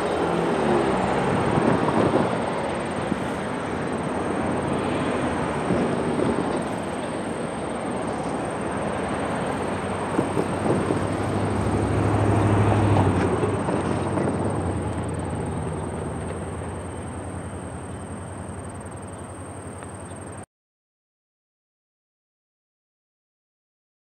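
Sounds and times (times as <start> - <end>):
freight train rumbling on rails: 0.0 - 20.4.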